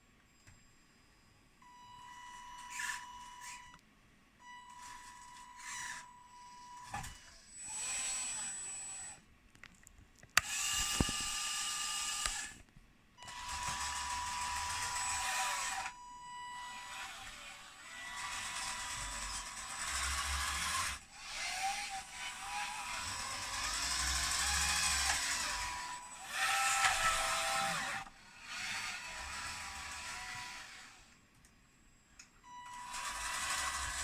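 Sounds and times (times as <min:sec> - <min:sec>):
small electric motors whining: 0:02.0 - 0:03.8, 0:04.5 - 0:09.2, 0:10.4 - 0:12.6, 0:13.2 - 0:31.2, 0:32.6 - 0:34.0.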